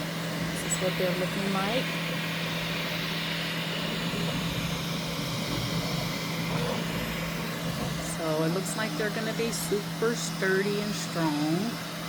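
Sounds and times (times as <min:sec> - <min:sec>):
three d printer fans whirring: 0:00.0 - 0:12.0.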